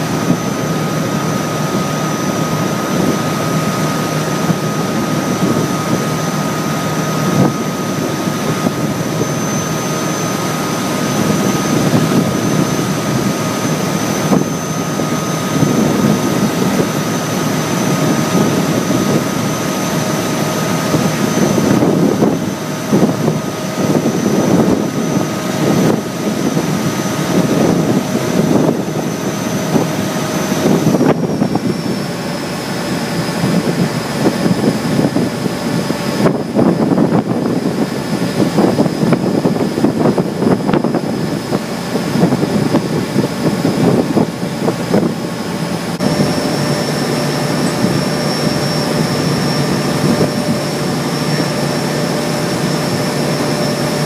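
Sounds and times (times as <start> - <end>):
boat engine running: 0.0 - 54.0
high whine: 0.0 - 54.0
water wash noise: 0.0 - 54.0.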